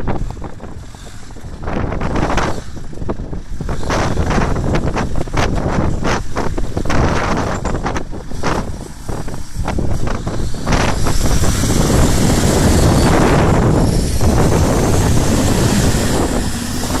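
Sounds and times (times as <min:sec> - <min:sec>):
car engine running hard: 0:00.0 - 0:17.0
wind buffeting microphone: 0:00.0 - 0:17.0.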